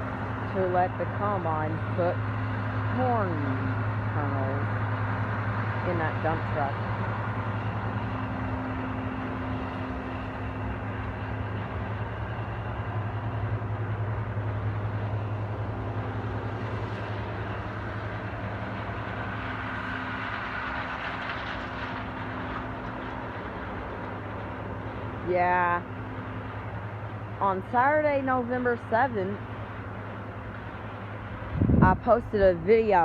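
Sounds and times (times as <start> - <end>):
combine harvester droning: 0.0 - 33.0.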